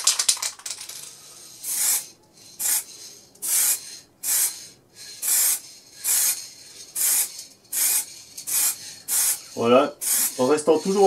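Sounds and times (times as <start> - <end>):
aerosol can spraying: 1.5 - 11.0.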